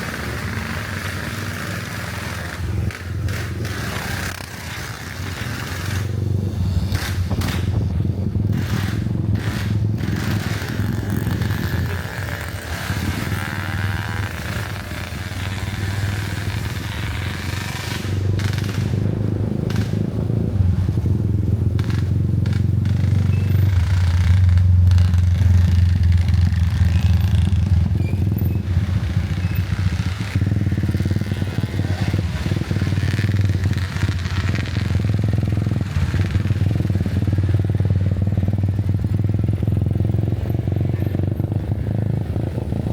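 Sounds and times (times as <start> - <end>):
motorcycle engine running: 0.0 - 42.9
road noise: 0.0 - 42.9.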